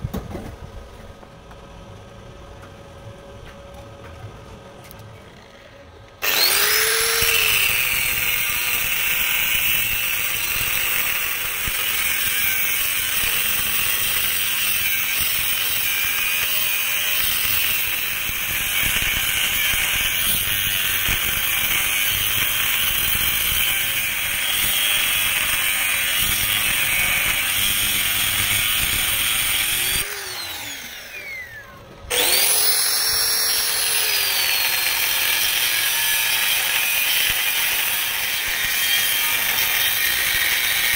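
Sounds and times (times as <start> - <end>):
angle grinder cutting steel: 6.2 - 40.9.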